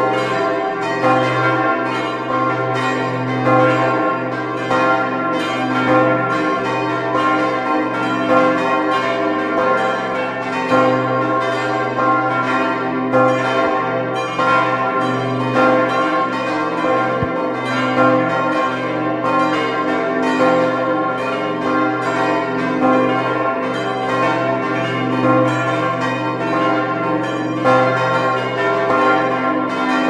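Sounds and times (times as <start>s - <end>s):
church bells pealing: 0.0s - 30.0s.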